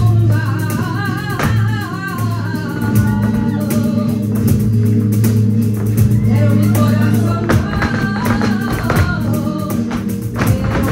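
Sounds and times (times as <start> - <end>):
acoustic guitar: 0.0 - 10.9.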